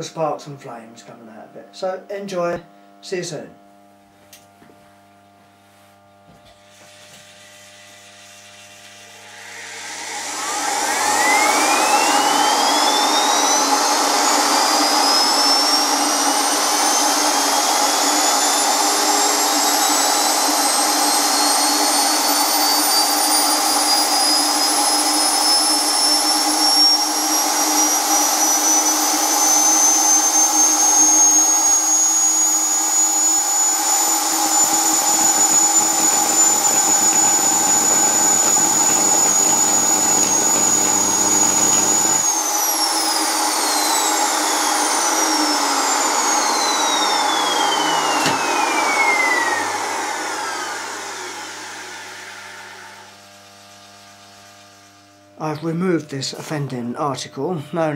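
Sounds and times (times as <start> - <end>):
vacuum cleaner motor whine: 6.0 - 56.9.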